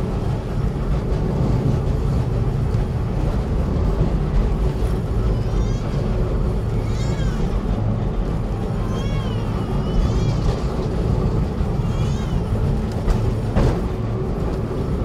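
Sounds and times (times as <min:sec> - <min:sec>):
tram wheels rumbling on track: 0:00.0 - 0:15.0.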